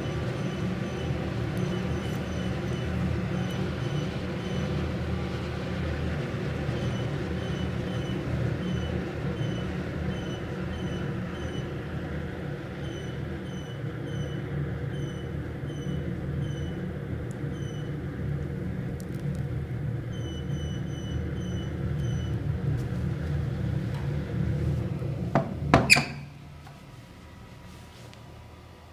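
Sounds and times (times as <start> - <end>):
boiler flame roaring: 0.0 - 28.9
faint steady hum: 0.0 - 28.9.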